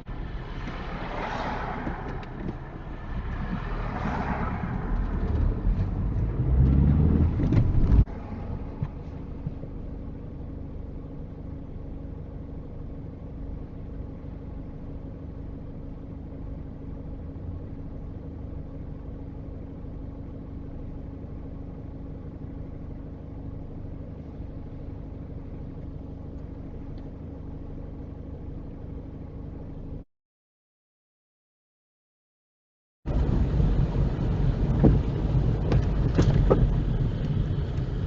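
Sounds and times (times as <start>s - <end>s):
car engine running: 0.0s - 30.0s, 33.1s - 38.0s
road rumble: 0.0s - 30.0s, 33.1s - 38.0s.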